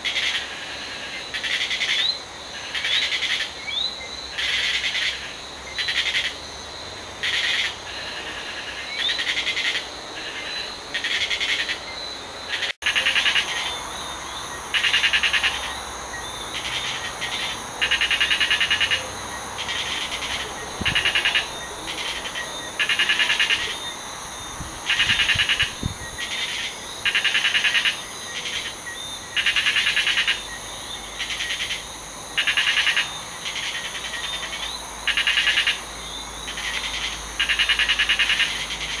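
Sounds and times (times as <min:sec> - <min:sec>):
frogs buzzy pulsed calls: 0:00.0 - 0:39.0
high-pitched insect trill: 0:00.0 - 0:39.0.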